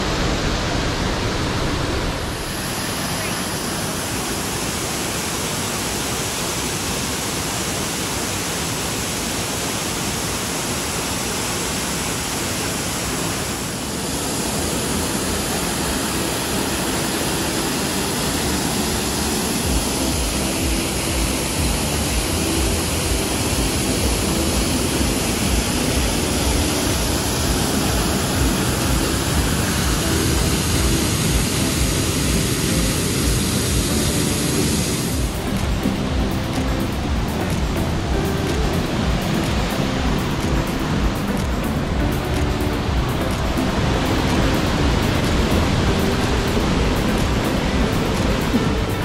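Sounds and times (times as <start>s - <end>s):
waterfall rushing and splashing: 0.0s - 49.0s.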